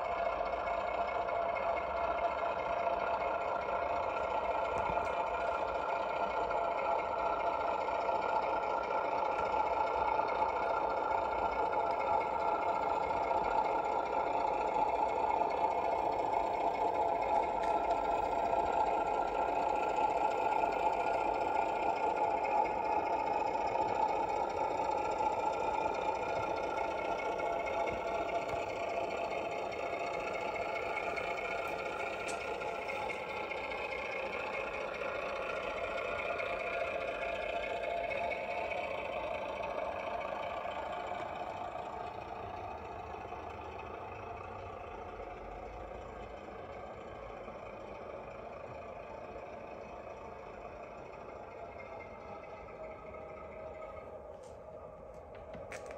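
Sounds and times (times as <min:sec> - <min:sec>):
model locomotive diesel engine sound: 0:00.0 - 0:55.9.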